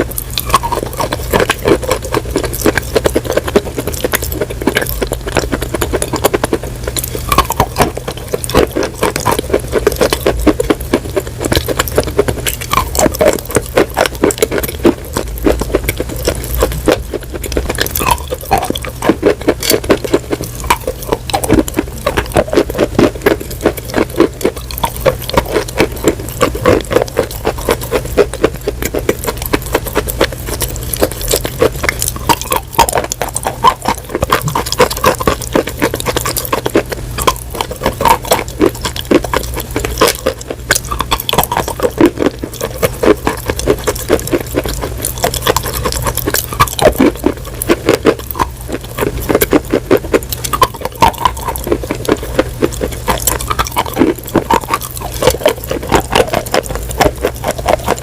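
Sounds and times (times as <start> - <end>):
crunching and chewing: 0.0 - 58.0
steady low hum: 0.0 - 58.0.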